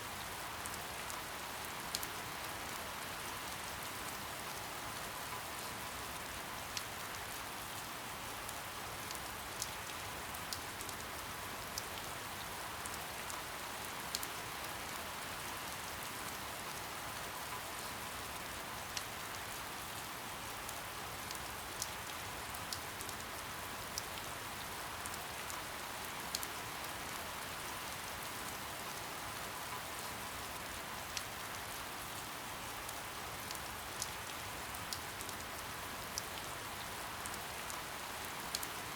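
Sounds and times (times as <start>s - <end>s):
soft rain hiss: 0.0s - 38.9s
raindrops ticking on a surface: 0.1s - 38.9s.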